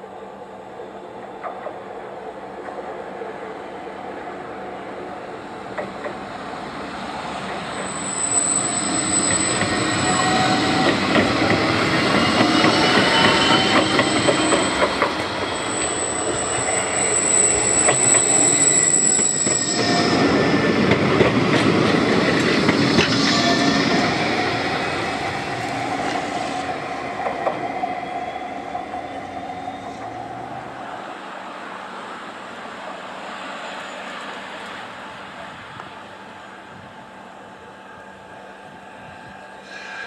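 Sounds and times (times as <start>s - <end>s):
tram wheels rumbling: 1.1s - 40.0s
tram wheel squeal: 5.8s - 31.0s, 33.1s - 40.0s.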